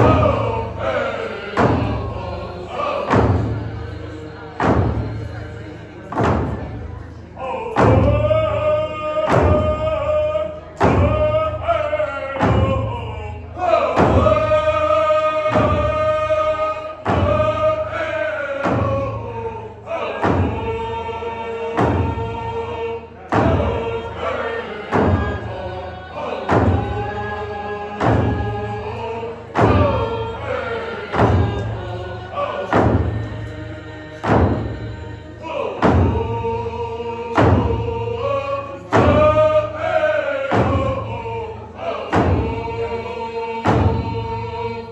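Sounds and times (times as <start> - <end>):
group singing in unison: 0.0 - 44.9
steady drum beat: 0.0 - 44.9.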